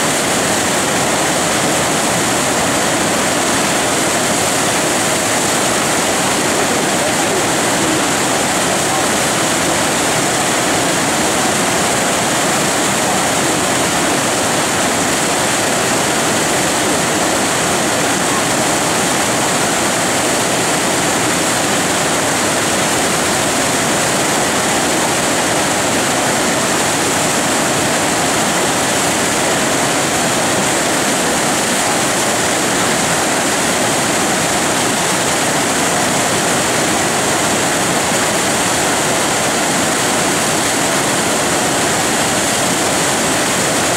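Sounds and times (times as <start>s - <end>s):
rush of whitewater rapids: 0.0s - 43.9s.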